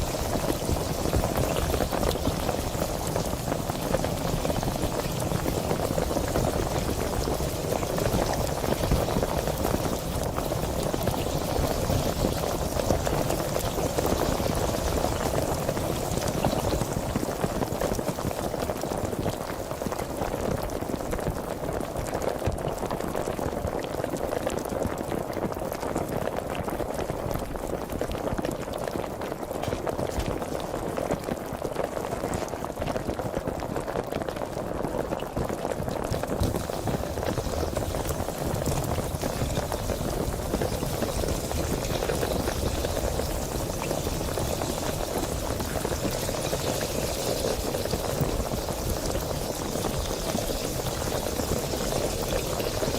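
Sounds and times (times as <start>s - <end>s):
carbonated water fizzing: 0.0s - 52.9s.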